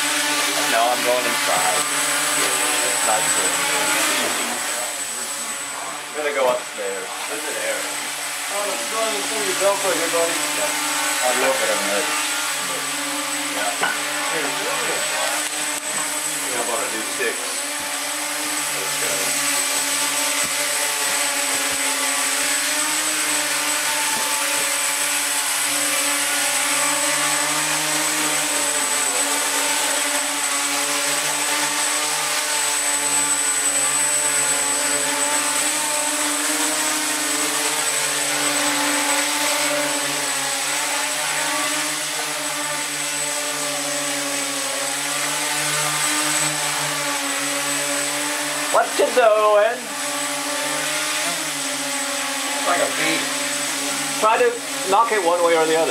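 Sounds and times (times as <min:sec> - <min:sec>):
drone propellers buzzing: 0:00.0 - 0:55.9.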